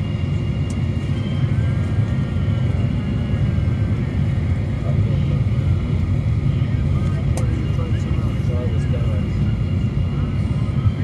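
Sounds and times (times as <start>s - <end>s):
airplane cabin rumble: 0.0s - 11.0s
jet engines idling in cabin: 0.0s - 11.0s.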